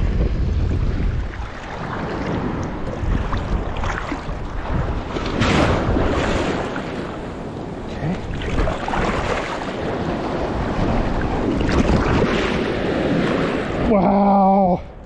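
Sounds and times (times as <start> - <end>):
shallow surf washing: 0.0 - 15.0
wind on microphone: 0.0 - 15.0.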